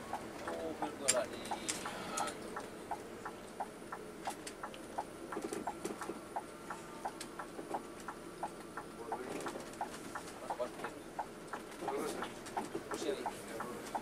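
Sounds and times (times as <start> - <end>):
engine and road hum: 0.0 - 14.0
turn signal ticking: 0.0 - 14.0.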